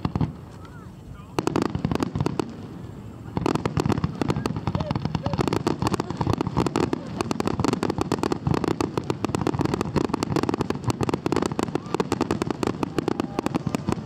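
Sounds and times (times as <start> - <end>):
fireworks bangs barrage: 0.0 - 14.0.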